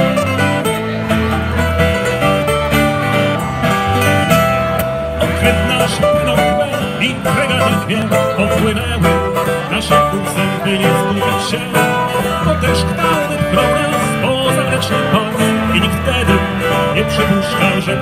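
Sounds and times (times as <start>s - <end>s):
electric bass guitar: 0.0s - 18.0s
plucked mandolin melody: 0.0s - 18.0s
strummed acoustic guitar: 0.0s - 18.0s.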